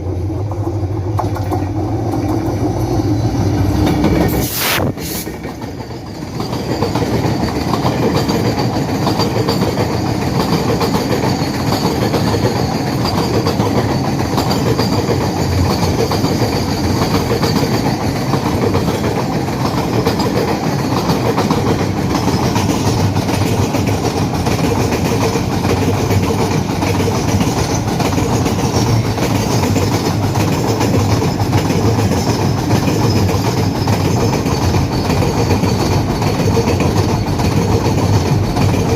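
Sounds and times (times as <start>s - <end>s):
train wheels clickety-clack: 0.0s - 38.9s.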